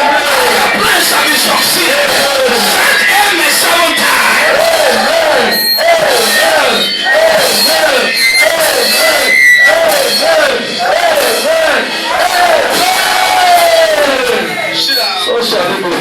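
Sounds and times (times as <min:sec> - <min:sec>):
congregation shouting in rhythm: 0:00.0 - 0:14.8
music: 0:00.0 - 0:16.0.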